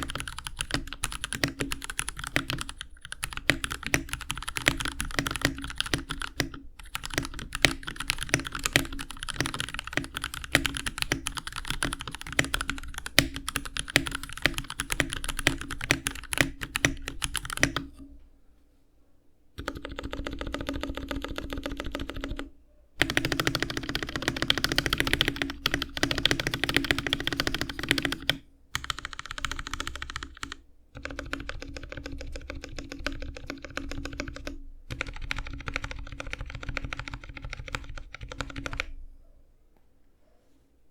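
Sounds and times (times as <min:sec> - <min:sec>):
mechanical keyboard typing: 0:00.0 - 0:18.0, 0:19.6 - 0:38.9.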